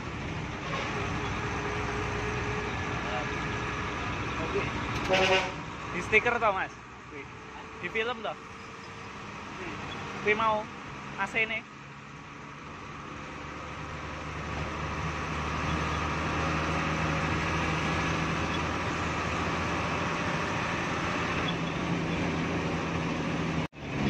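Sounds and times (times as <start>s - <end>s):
bus diesel engine: 0.0s - 24.0s
road noise: 0.0s - 24.0s.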